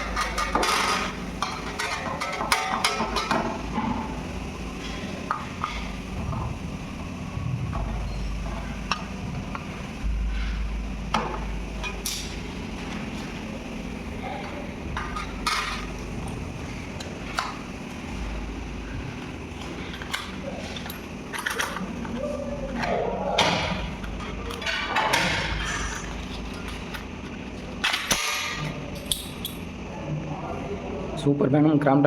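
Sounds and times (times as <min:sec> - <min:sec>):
low steady rumble: 0:00.0 - 0:31.2.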